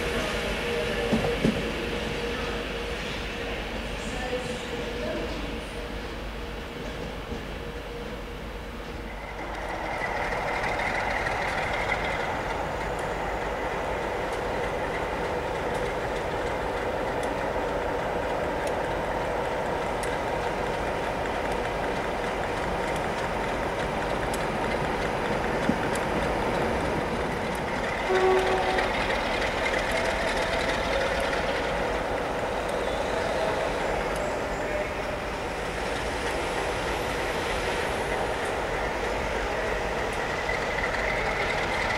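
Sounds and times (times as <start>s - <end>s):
train rumble and hum: 0.0s - 41.9s.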